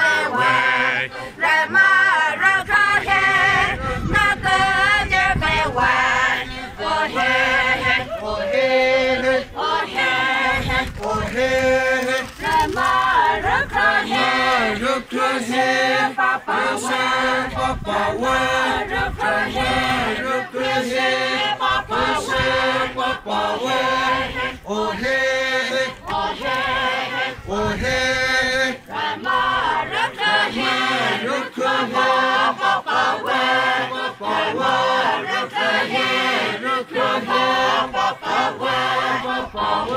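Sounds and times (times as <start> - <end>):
group chanting and singing: 0.0 - 39.9.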